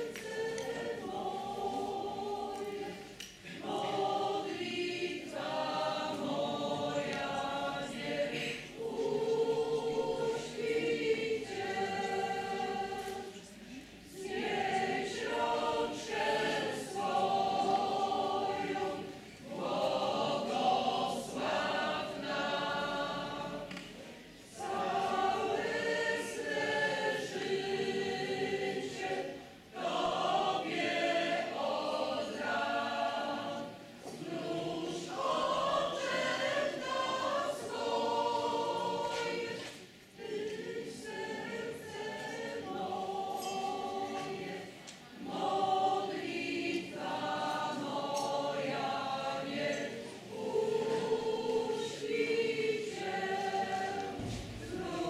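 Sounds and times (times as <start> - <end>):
mixed choir singing a carol: 0.0 - 55.0.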